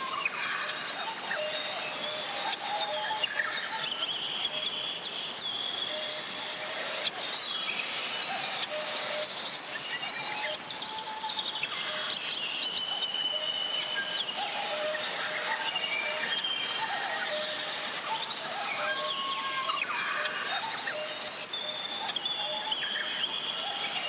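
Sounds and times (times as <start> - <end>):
birds singing: 0.0 - 24.0.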